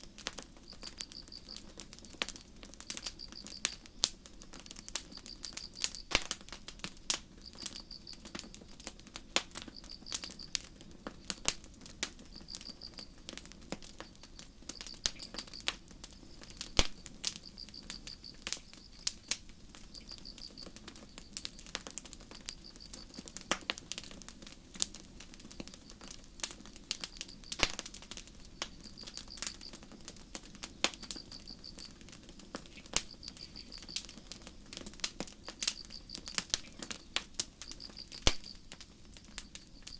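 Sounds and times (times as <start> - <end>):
campfire crackling and popping: 0.0 - 39.9
cricket chirping: 0.2 - 23.5, 25.4 - 39.9.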